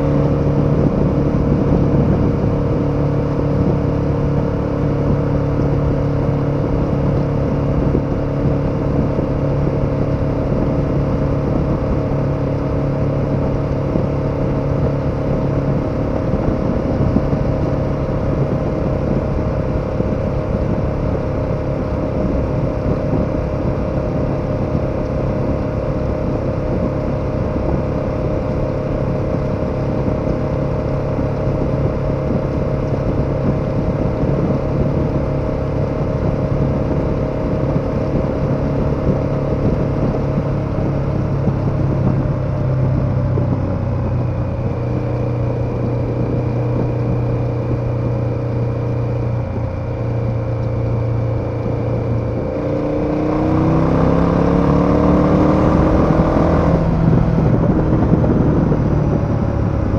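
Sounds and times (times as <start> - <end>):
motorcycle engine cruising: 0.0 - 59.9
rushing wind noise: 0.0 - 59.9.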